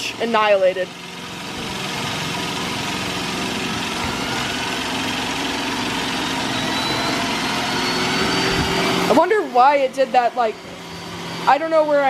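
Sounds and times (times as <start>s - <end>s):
robot vacuum motor drone: 0.0s - 12.0s.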